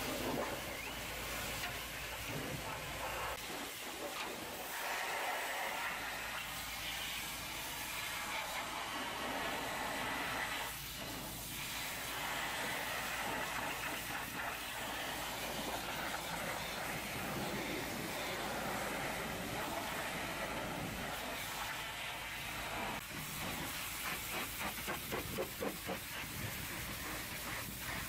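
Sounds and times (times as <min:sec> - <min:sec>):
pressure washer spray hissing: 0:00.0 - 0:28.0.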